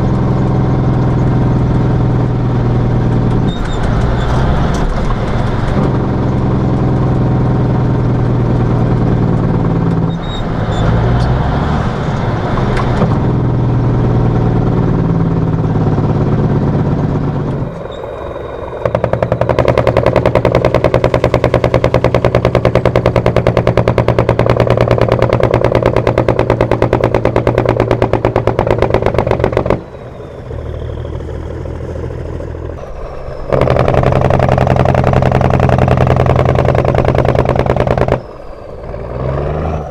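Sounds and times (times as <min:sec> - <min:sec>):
engine brake chatter: 0:00.0 - 0:13.5, 0:17.1 - 0:39.9
diesel truck engine running: 0:00.0 - 0:39.9.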